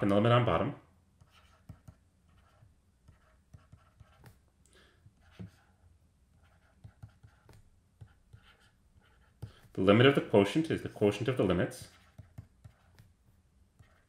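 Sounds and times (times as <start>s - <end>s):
stylus tapping and scraping on tablet: 1.2s - 14.0s.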